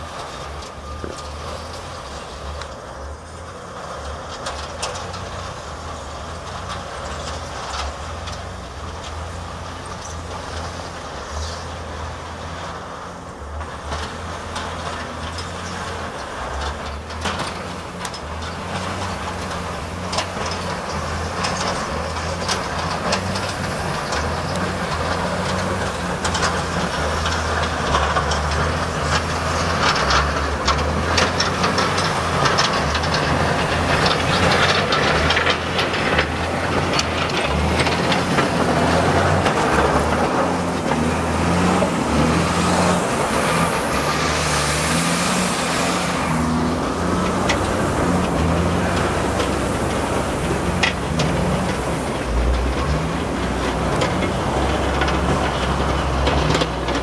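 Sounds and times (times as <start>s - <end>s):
blade scraping and rattling on snow: 0.0s - 57.0s
diesel engine running: 0.0s - 57.0s.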